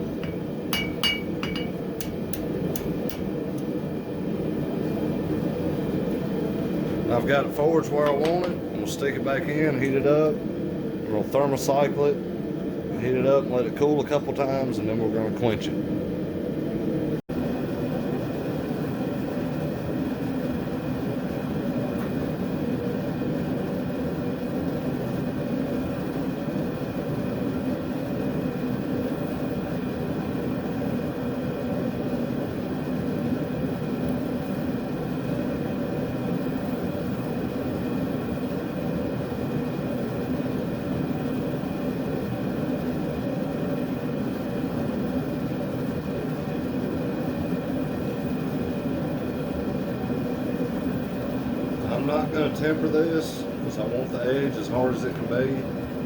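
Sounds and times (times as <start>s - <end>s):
forge running: 0.0s - 30.9s, 31.6s - 56.0s.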